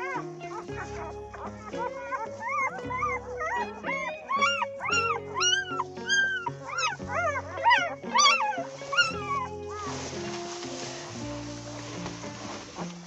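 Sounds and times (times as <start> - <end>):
background music sustained notes: 0.0 - 13.0
puppies squealing whines: 0.0 - 13.0.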